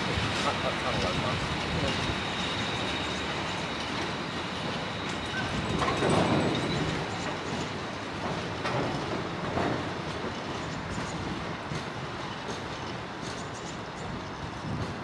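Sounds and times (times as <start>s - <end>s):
rumble of train wheels: 0.0s - 15.0s
wheels clicking over rail joints: 0.0s - 15.0s.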